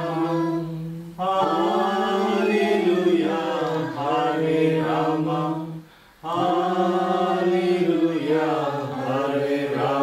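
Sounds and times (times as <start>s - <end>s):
group singing in unison: 0.0s - 10.0s.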